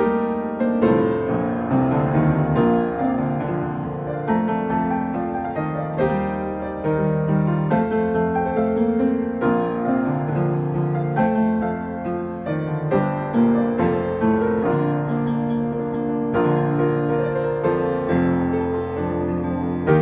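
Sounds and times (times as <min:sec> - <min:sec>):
slow solo piano piece: 0:00.0 - 0:20.0.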